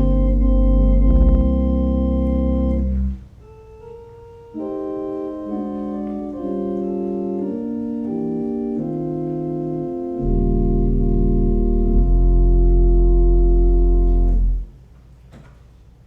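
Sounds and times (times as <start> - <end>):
organ playing held chords: 0.0 - 14.7.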